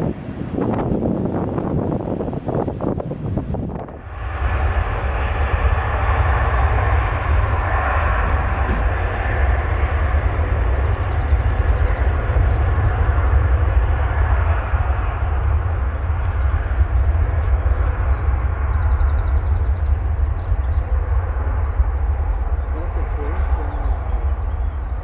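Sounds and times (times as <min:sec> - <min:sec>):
jet engines rumbling: 0:00.0 - 0:25.0
wind rumble on microphone: 0:00.0 - 0:25.0.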